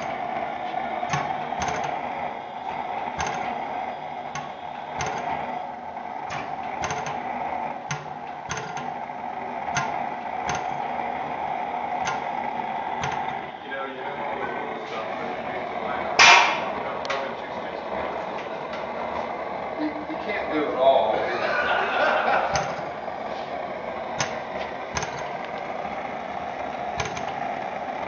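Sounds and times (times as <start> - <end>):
gas engine compressor beating: 0.0 - 28.0.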